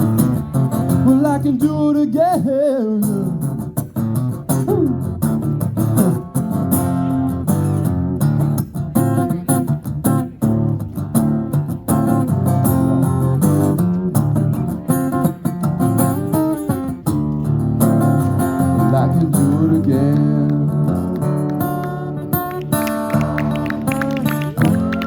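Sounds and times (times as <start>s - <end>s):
guitar strumming chords: 2.9s - 25.0s.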